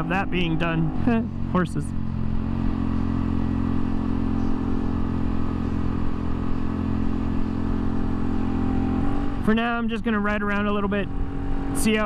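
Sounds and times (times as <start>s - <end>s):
minibike engine cruising: 0.0s - 12.0s.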